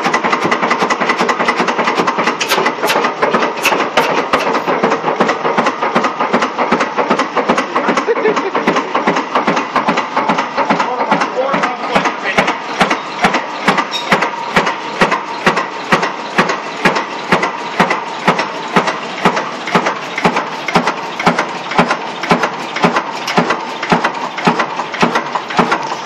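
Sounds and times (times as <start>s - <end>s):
stationary engine running: 0.0s - 26.0s.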